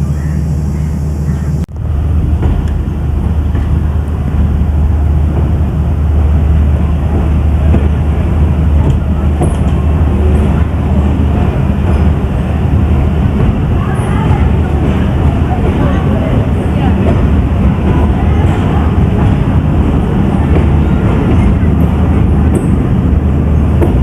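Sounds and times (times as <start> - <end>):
passenger train rumbling: 0.0 - 24.0.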